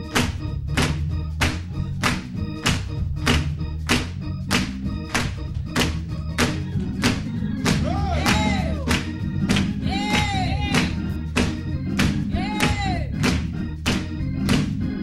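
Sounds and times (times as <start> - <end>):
gospel music with organ and bass: 0.0 - 15.0.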